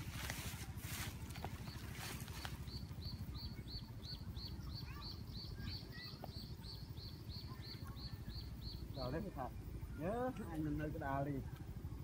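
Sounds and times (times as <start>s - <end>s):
steady low rumble: 0.0s - 12.0s
small bird chirping: 0.2s - 12.0s.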